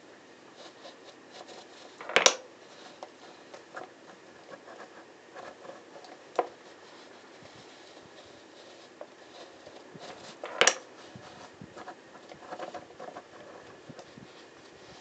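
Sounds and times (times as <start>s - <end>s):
plastic scraping on wood: 0.7s - 15.0s.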